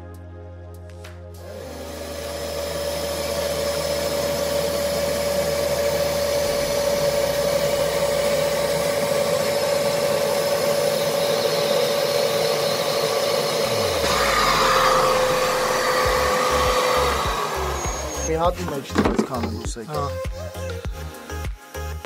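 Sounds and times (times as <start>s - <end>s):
vacuum suction motor running: 1.4s - 19.6s.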